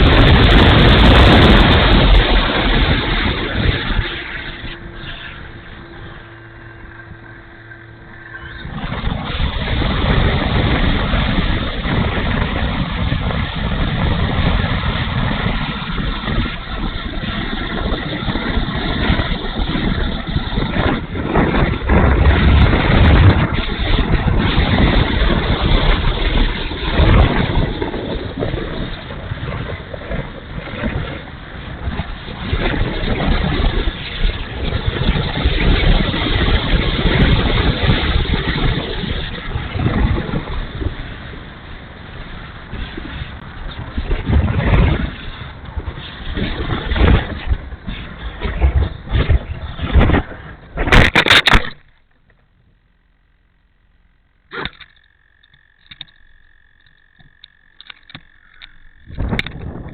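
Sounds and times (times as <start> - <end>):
gusty wind buffeting microphone: 0.0 - 51.9, 55.6 - 59.9.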